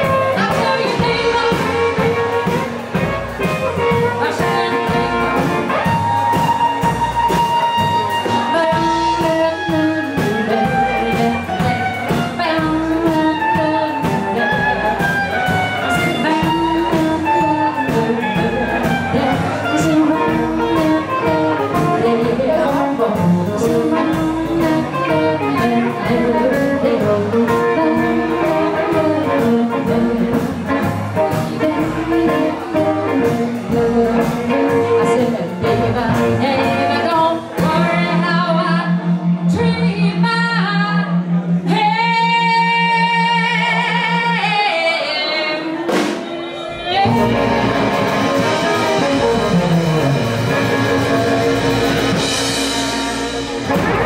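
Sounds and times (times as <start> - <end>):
live blues-rock band: 0.0 - 54.0
person singing: 0.0 - 54.0.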